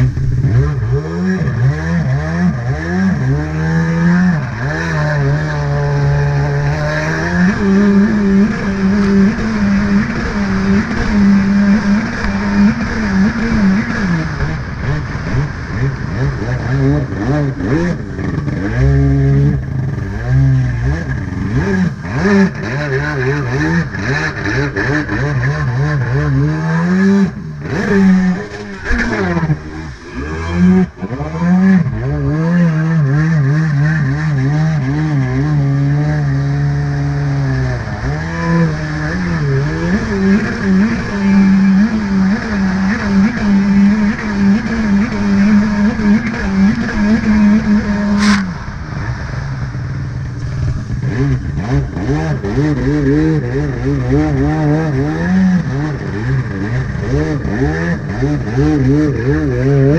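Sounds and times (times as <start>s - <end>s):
jet ski engine revving: 0.0s - 59.9s.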